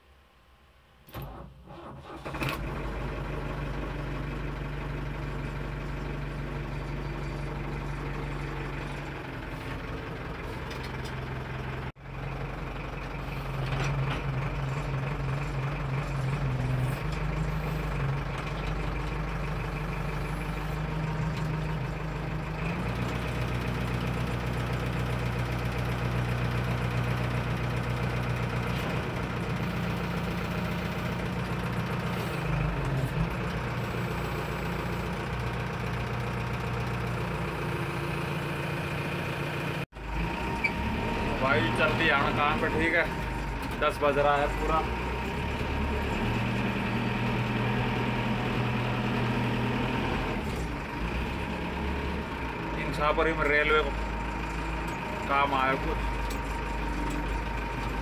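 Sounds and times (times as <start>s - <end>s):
diesel engine droning: 1.1s - 58.0s.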